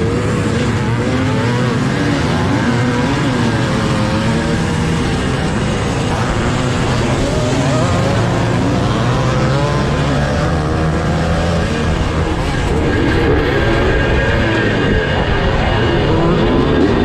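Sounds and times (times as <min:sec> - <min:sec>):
two-stroke motocross engine revving: 0:00.0 - 0:17.0.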